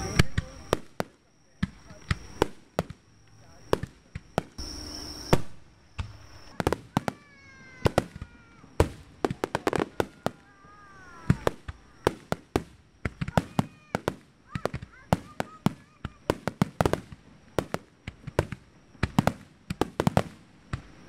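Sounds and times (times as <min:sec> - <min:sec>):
firework shells bursting: 0:00.0 - 0:21.0.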